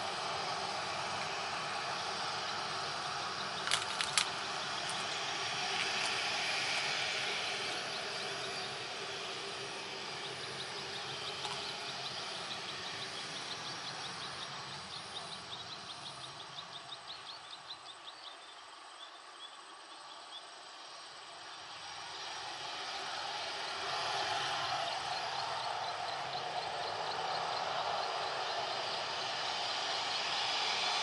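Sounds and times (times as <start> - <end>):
distant jet engines rumbling: 0.0 - 17.9, 20.6 - 31.0.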